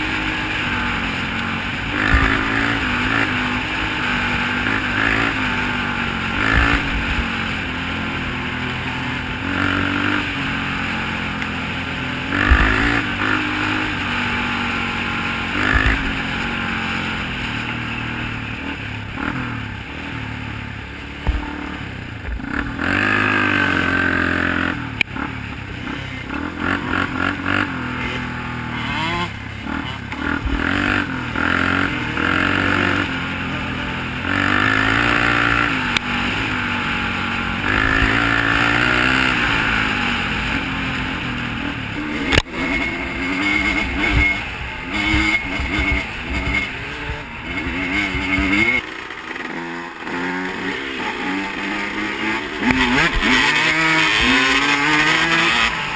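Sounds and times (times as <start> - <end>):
off-road vehicle engines revving: 0.0 - 55.9.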